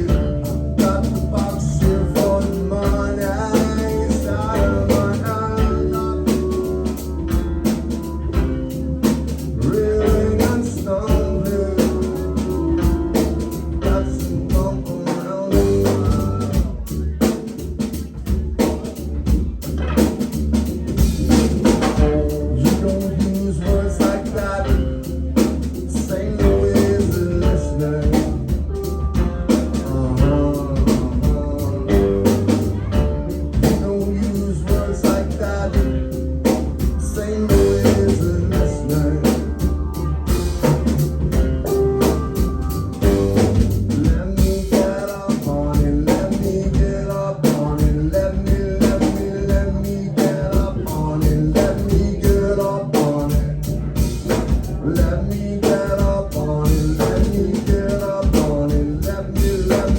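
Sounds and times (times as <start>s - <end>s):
drum kit driving beat: 0.0s - 59.9s
rock band playing live: 0.0s - 59.9s.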